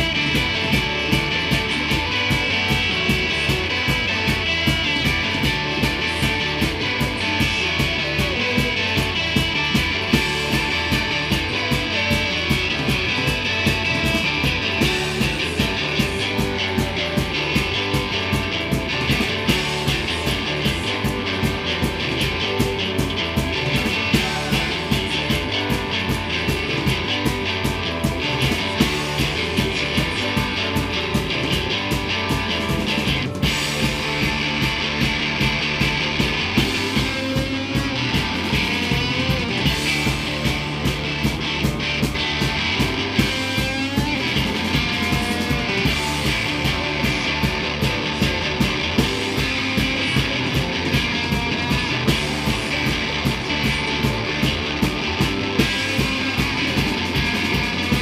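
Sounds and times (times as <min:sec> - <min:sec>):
bass guitar: 0:00.0 - 0:58.0
drum kit beat: 0:00.0 - 0:58.0
electric guitar: 0:00.0 - 0:58.0.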